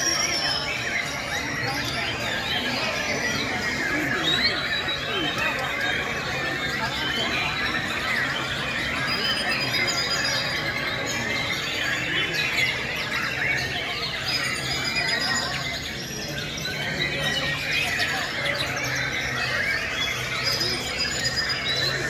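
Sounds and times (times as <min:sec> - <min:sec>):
birds singing: 0:00.0 - 0:22.0.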